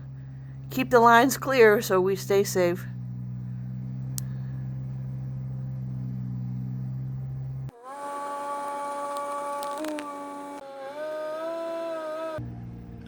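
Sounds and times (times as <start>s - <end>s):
low engine drone: 0.0s - 13.0s
machine whine: 0.0s - 13.0s.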